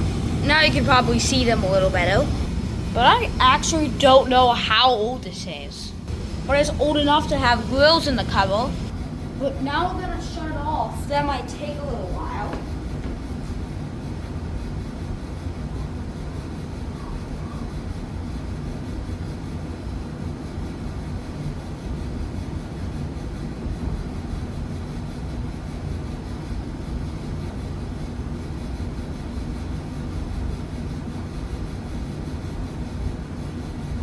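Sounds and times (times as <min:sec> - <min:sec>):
gas furnace rumbling: 0:00.0 - 0:34.0.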